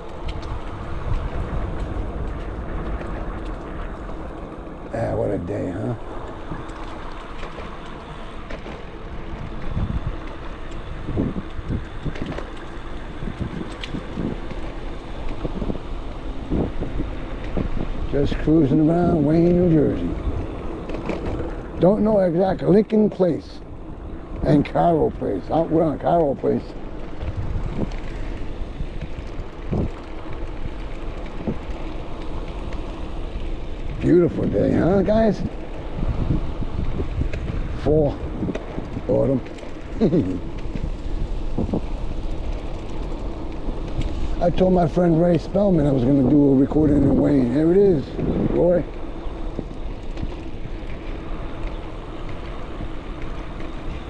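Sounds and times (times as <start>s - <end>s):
bike riding noise: 0.0s - 54.0s
wind buffeting microphone: 0.0s - 54.0s.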